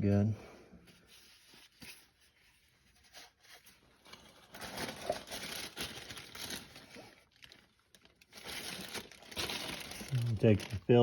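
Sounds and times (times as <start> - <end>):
crinkling and rustling: 1.0 - 11.0.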